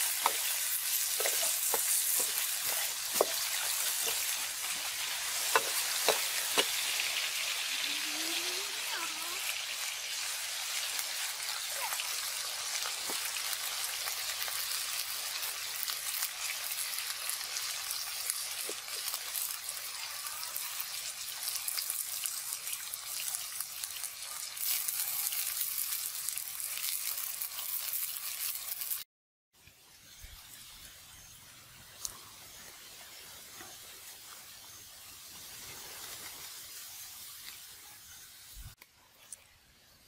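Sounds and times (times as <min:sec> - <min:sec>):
frying sizzle with pops: 0:00.0 - 0:40.0.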